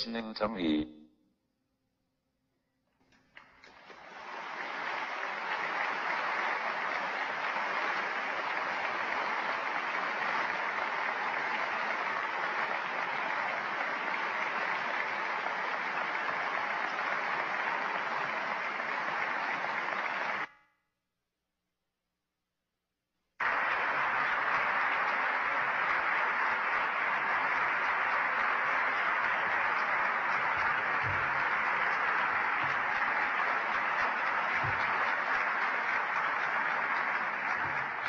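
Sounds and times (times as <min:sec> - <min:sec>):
audience applauding: 0:03.0 - 0:20.5, 0:23.4 - 0:38.0.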